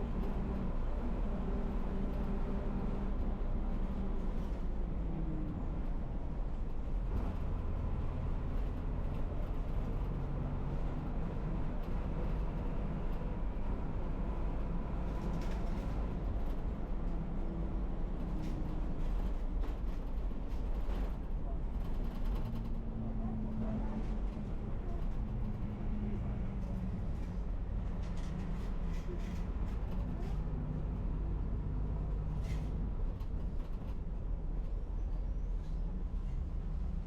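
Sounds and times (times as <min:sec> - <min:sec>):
road and traffic noise: 0:00.0 - 0:37.0.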